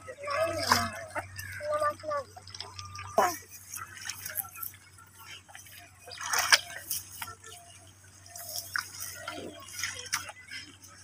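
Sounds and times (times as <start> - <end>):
water dripping: 0.2 - 11.0
hands splashing in shallow water: 0.5 - 11.0.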